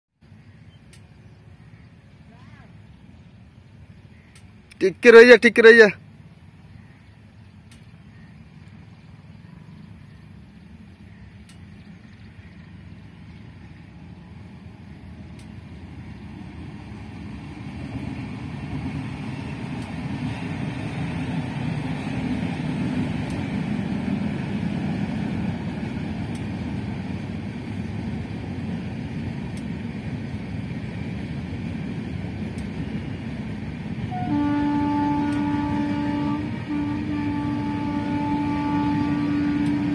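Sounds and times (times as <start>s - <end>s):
train wheels rumbling on track: 0.2s - 39.9s.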